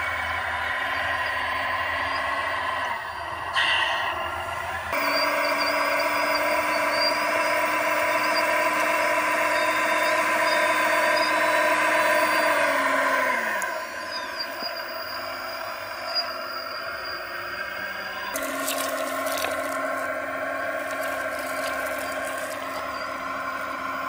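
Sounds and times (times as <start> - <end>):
toy loader motors whining: 0.0 - 24.0.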